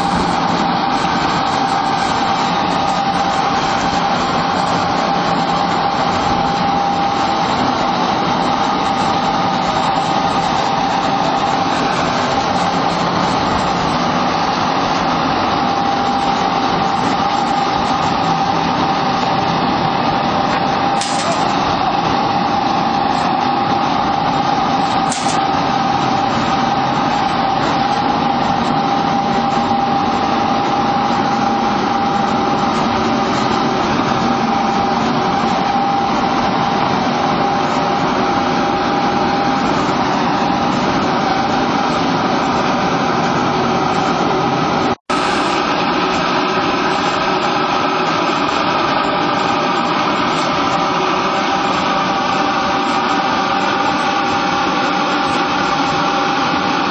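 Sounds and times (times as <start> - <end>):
constant high machine whine: 0.0 - 56.9
pellet machinery running: 0.0 - 56.9.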